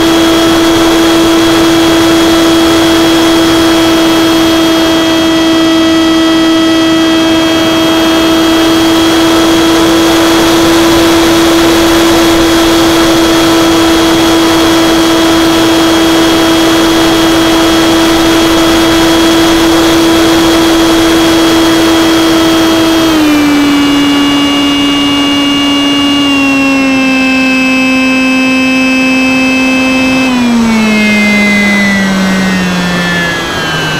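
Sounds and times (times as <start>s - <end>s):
electric motor whine: 0.0s - 33.9s.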